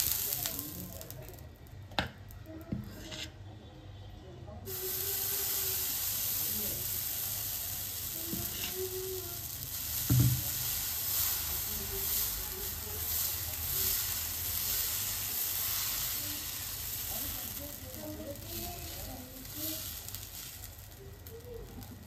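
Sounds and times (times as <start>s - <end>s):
batter sizzling on a hot pan: 0.0s - 3.4s, 4.6s - 22.0s.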